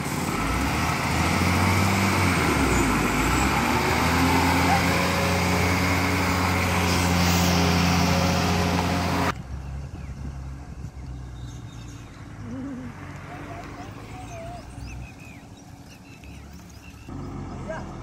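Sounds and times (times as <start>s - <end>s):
diesel truck engine running: 0.0s - 11.3s, 12.2s - 18.0s.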